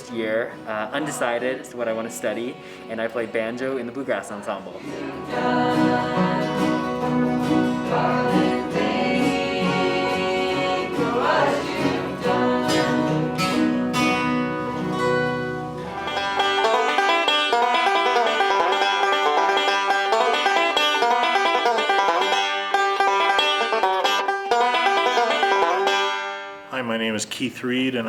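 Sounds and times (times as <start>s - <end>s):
banjo: 0.0s - 26.8s
acoustic guitar: 0.0s - 27.8s.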